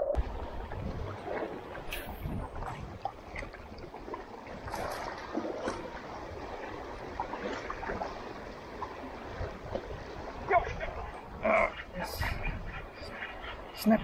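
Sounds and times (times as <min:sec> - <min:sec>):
waves lapping against rocks: 0:00.0 - 0:14.0.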